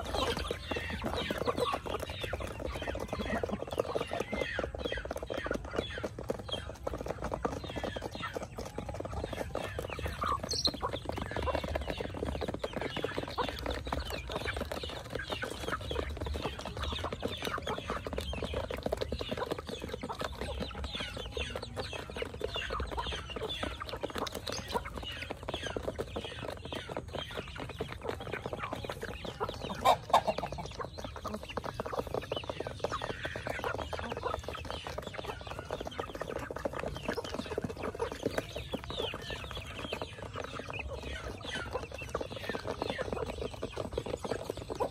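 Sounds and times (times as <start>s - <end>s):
chickens clucking: 0.0s - 44.9s
clatter of pecks: 0.0s - 44.9s.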